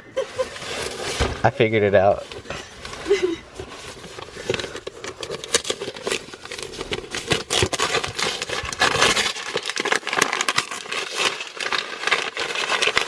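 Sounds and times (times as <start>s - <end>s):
packaging crinkling: 0.2s - 13.0s.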